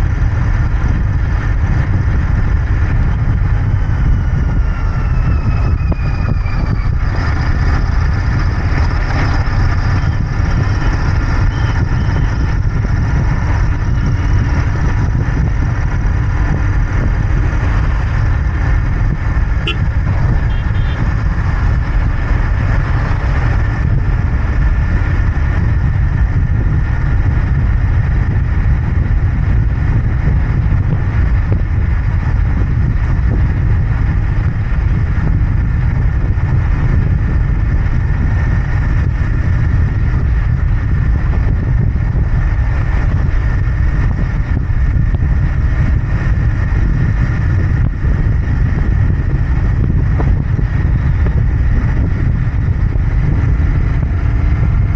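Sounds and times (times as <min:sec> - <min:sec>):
motorcycle engine rumbling: 0:00.0 - 0:54.9.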